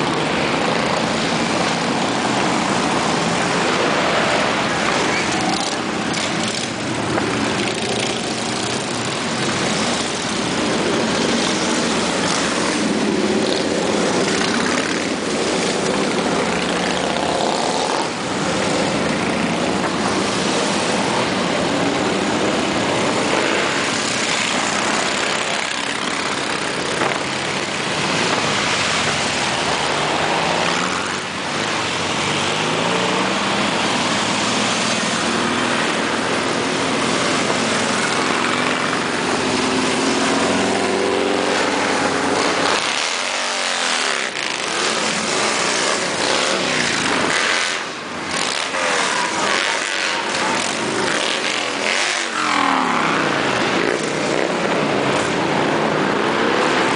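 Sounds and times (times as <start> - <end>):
motorcycles riding past: 0.0 - 56.9.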